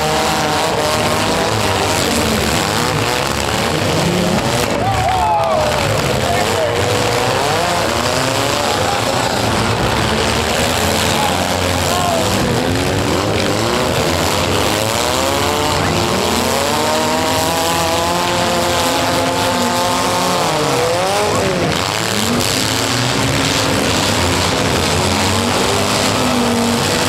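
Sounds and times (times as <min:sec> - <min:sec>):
car engines revving hard: 0:00.0 - 0:27.0
din of engines: 0:00.0 - 0:27.0.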